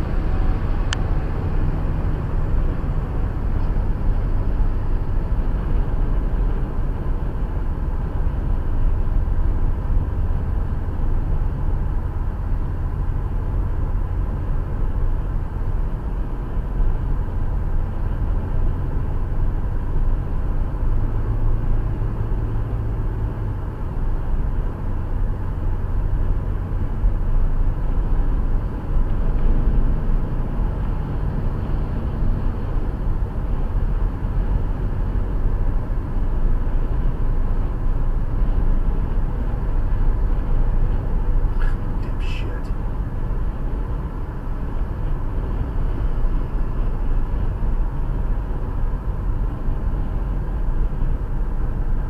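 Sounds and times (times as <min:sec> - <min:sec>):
car driving rumble: 0:00.0 - 0:52.0.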